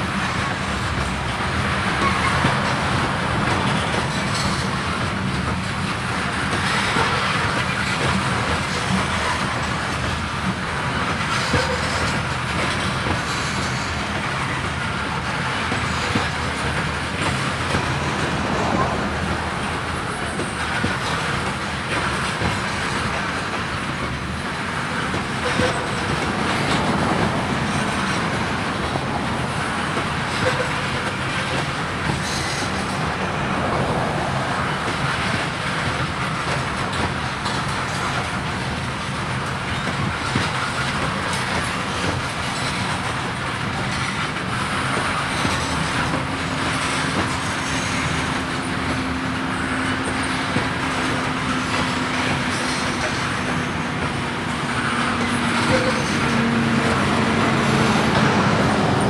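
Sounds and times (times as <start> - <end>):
steel wheels on rail: 0.0 - 59.0.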